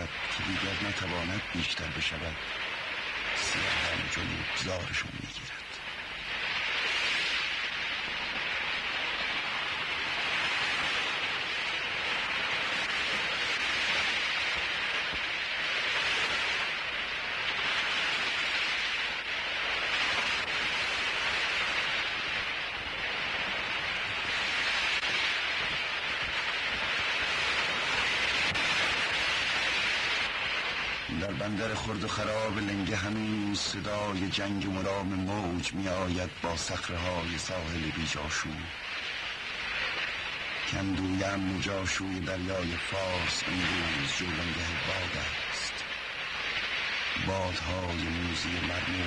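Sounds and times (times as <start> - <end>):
sea surf washing: 0.0 - 49.0.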